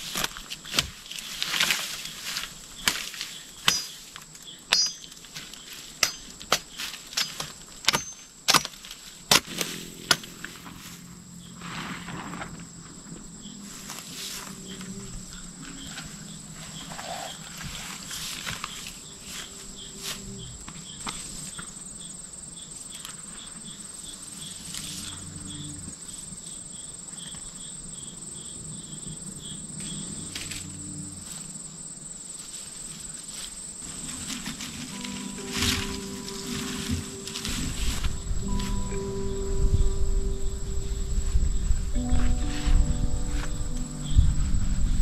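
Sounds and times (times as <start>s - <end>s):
cricket chirping: 0.0s - 45.0s
crickets trilling: 0.0s - 45.0s.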